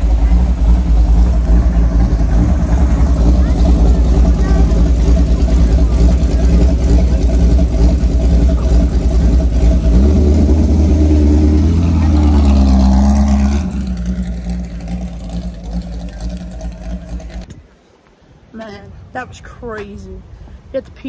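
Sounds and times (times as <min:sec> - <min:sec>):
race car engine revving: 0:00.0 - 0:17.5.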